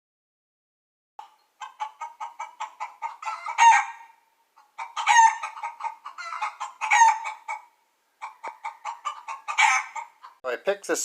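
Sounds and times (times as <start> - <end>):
chicken clucking: 1.2 - 10.4
chicken drawn-out calls: 1.2 - 10.4.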